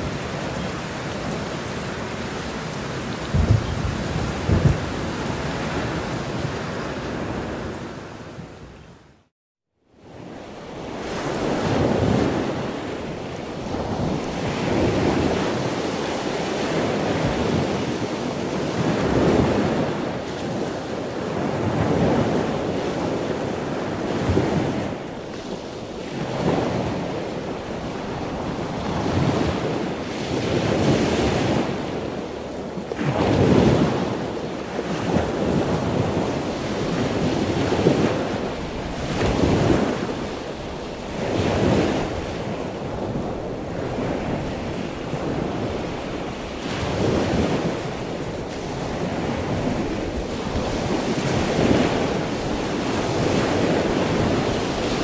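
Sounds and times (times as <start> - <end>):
wind noise on microphone: 0.0 - 9.2, 10.0 - 55.0.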